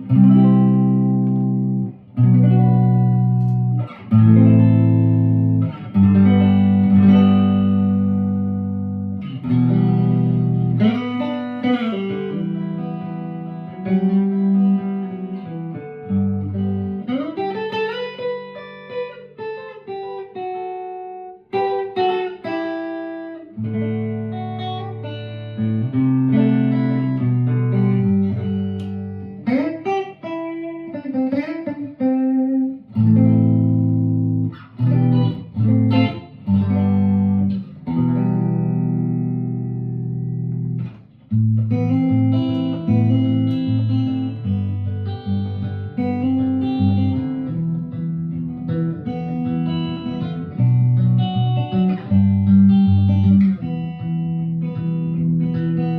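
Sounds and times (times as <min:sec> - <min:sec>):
electric guitar playing solo: 0:00.0 - 0:55.9.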